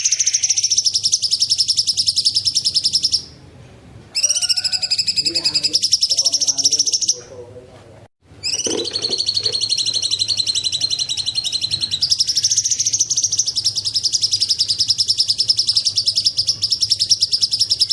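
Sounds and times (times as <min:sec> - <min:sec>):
bird singing rapid trill: 0:00.0 - 0:03.4, 0:04.2 - 0:07.3, 0:08.4 - 0:17.9.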